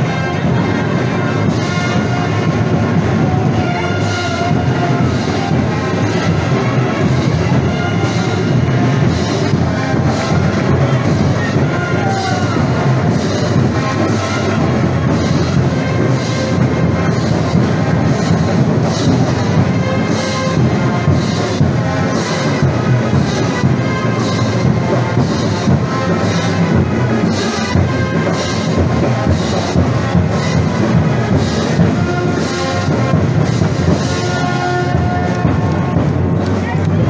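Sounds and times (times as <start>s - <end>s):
brass band playing march: 0.0s - 37.0s.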